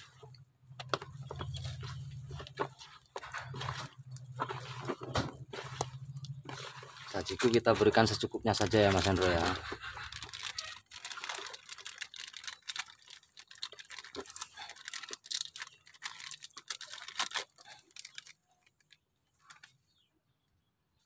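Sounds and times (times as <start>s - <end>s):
sachet crinkling: 0.0s - 19.7s
hand kneading wet paste: 0.0s - 20.1s.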